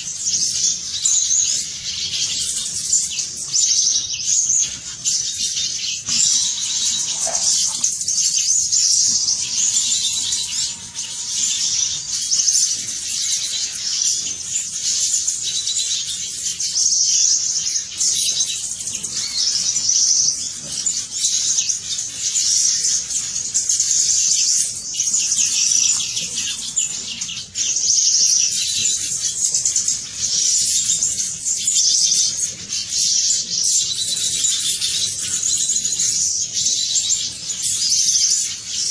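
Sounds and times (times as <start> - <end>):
small birds twittering: 0.0 - 38.9.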